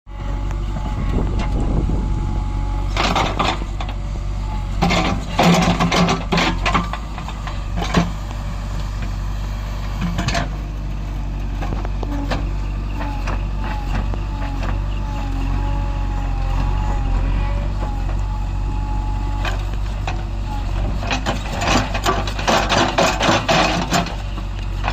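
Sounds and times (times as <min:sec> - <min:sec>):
diesel engine running: 0:00.1 - 0:24.9.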